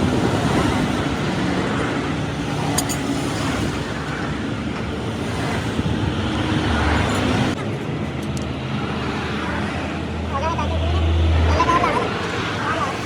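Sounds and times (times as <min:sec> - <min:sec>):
road traffic with engines running: 0:00.0 - 0:13.0.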